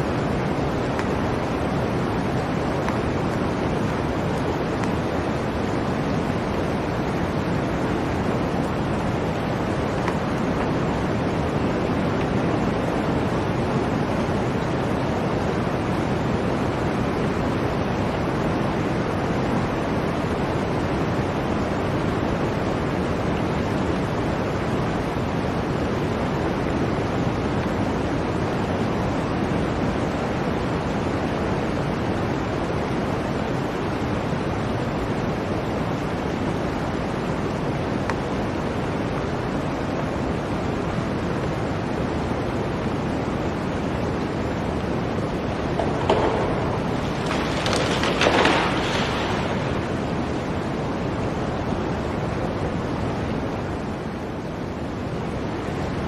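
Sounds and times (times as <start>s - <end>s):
blizzard wind: 0.0s - 56.0s.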